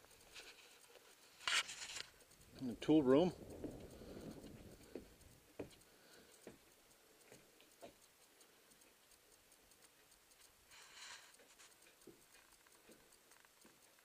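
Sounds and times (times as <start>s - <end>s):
faint irregular taps: 0.0s - 14.0s.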